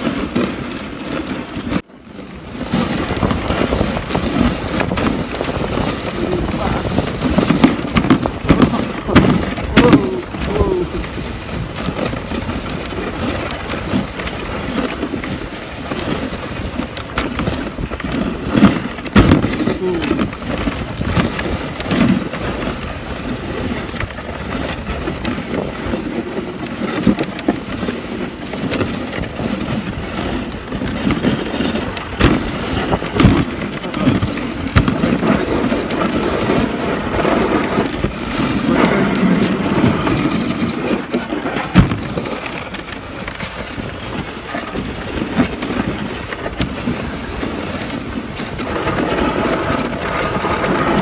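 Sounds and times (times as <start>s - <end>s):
sled knocking over bumps: 0.0s - 51.0s
sled runners scraping on snow: 0.0s - 51.0s.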